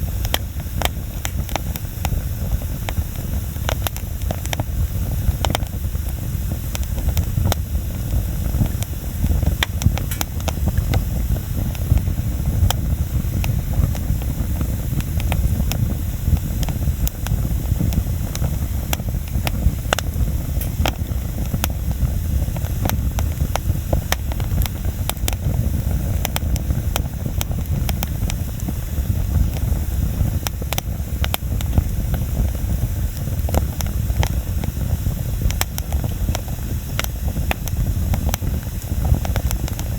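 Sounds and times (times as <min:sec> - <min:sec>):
bonfire crackling and popping: 0:00.0 - 0:39.9
low fire rumble: 0:00.0 - 0:39.9.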